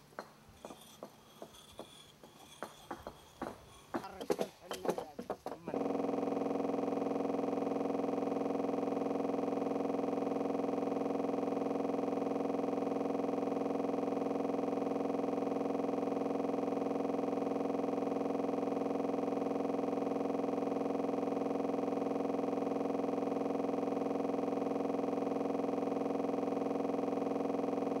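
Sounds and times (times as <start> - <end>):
electronic hum: 0.0 - 28.0.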